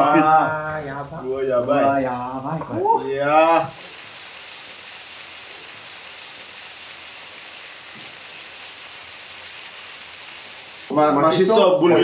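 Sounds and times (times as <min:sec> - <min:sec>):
food sizzling in a griddle pan: 0:00.0 - 0:12.0.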